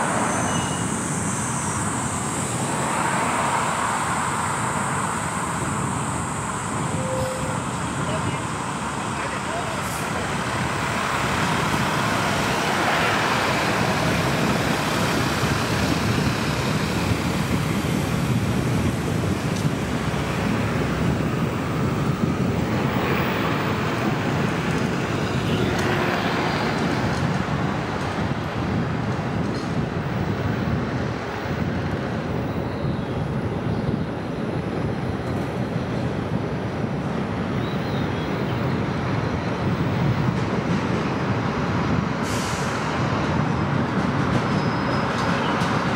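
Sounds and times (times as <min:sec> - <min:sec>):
tyres rumbling on road: 0:00.0 - 0:45.9
vehicles passing: 0:00.0 - 0:45.9.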